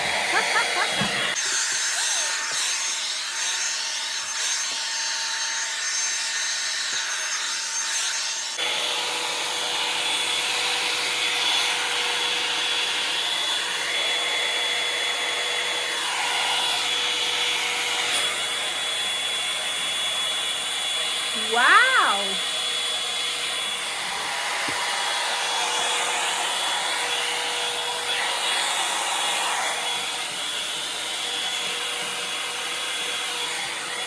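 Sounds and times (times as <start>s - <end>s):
hair dryer running: 0.0s - 5.8s, 8.4s - 34.0s.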